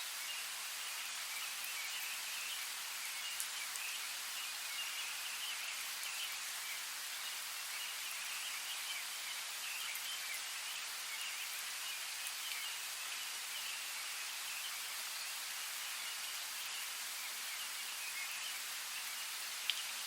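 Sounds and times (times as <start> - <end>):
rain on foliage: 0.0 - 20.0.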